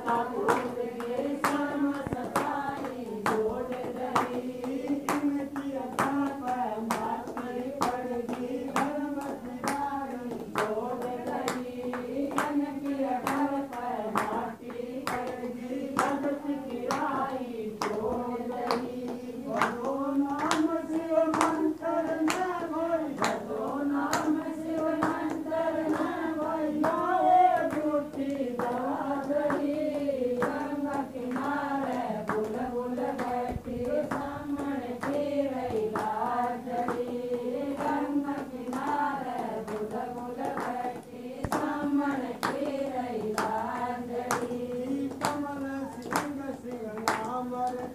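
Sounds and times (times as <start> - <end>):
hand-clapping: 0.0 - 47.9
women singing in unison: 0.0 - 47.9.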